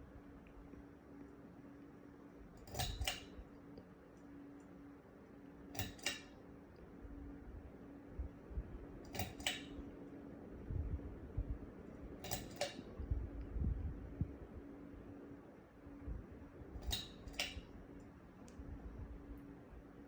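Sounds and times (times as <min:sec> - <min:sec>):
ceiling fan motor hum: 0:00.0 - 0:20.0.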